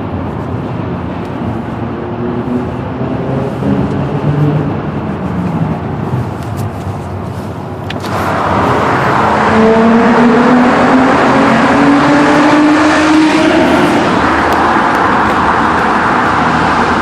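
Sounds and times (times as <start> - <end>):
car engine accelerating in tunnel: 0.0 - 17.0.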